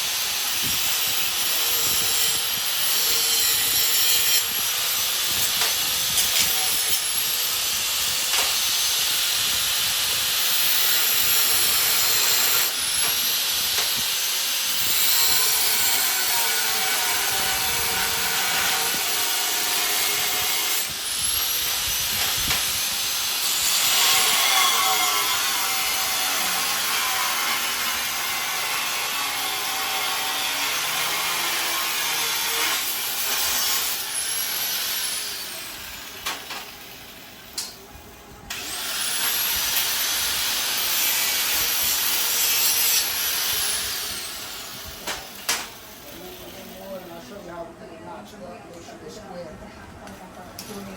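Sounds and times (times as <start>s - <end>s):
angle grinder cutting steel: 0.0s - 37.8s, 38.5s - 47.1s.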